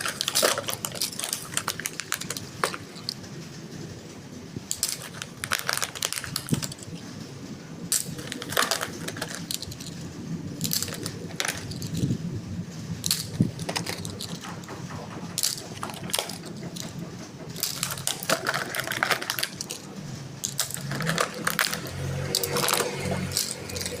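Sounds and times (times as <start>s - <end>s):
plastic toys clicking and rattling: 0.0s - 24.0s.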